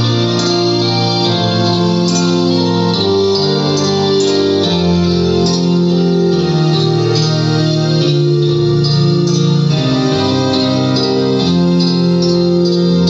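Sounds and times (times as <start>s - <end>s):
karaoke instrumental music: 0.0s - 13.0s.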